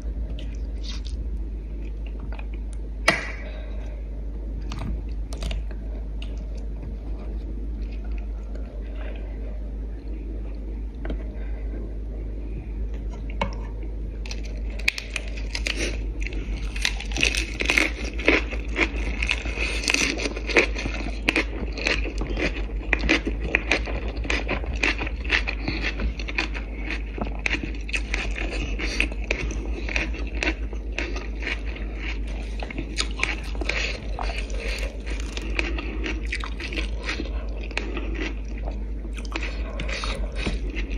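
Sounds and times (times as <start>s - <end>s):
crunching and chewing lettuce: 0.0s - 2.8s, 4.6s - 11.7s, 14.1s - 40.9s
low hum: 0.0s - 40.9s.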